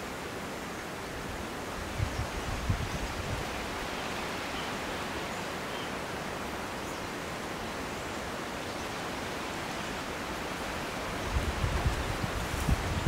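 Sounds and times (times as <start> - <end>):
forest ambience hiss: 0.0 - 13.0.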